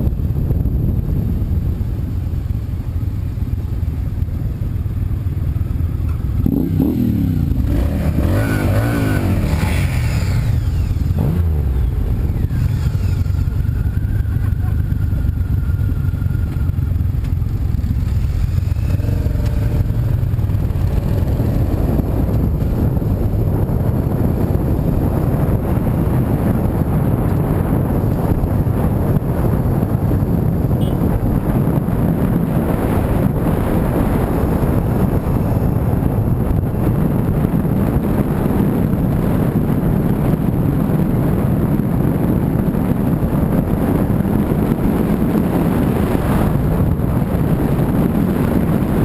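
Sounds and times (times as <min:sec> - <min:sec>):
car engine and tyre rumble: 0:00.0 - 0:49.0
passing vehicle: 0:00.0 - 0:49.0.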